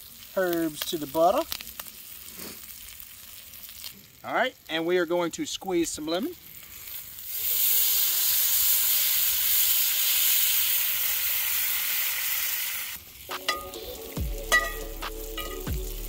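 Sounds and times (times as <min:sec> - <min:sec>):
butter sizzling in a skillet: 0:00.0 - 0:04.8, 0:05.6 - 0:16.0.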